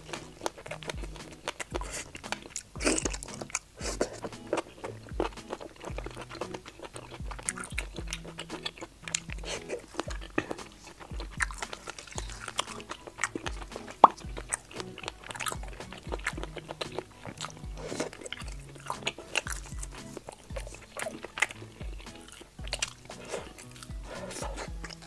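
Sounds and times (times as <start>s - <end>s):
background music: 0.0s - 25.0s
chewing and biting: 0.0s - 25.0s
wet mouth clicks and smacks: 0.0s - 25.0s.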